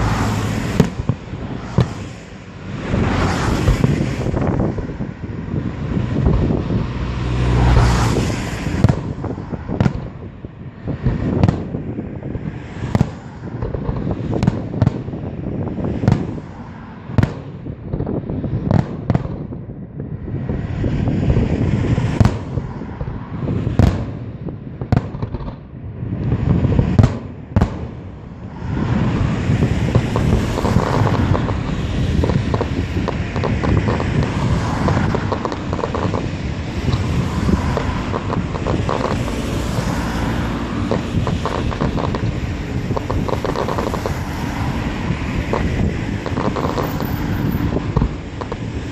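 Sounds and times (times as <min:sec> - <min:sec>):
fireworks crackling: 0:00.0 - 0:11.8, 0:12.5 - 0:19.5, 0:20.5 - 0:48.9
fireworks exploding: 0:00.0 - 0:19.7, 0:20.4 - 0:48.9
continuous rumble: 0:00.0 - 0:48.9.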